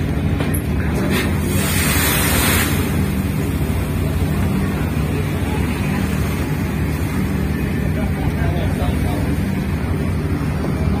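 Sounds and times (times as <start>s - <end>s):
ship machinery drone: 0.0s - 11.0s.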